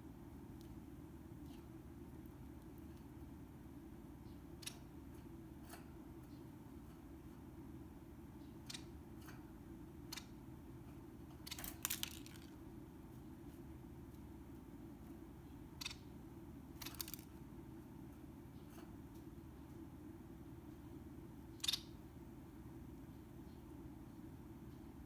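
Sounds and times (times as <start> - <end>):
low room hum: 0.0 - 25.0
finch clicking and pecking: 0.3 - 25.0.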